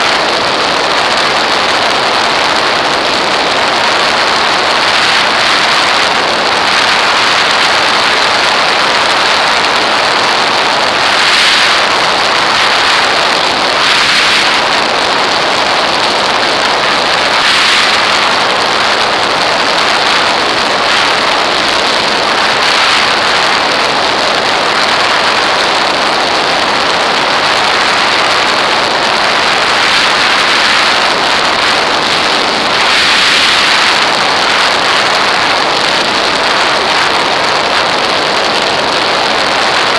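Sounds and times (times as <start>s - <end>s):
rush of airflow over camera: 0.0s - 39.9s.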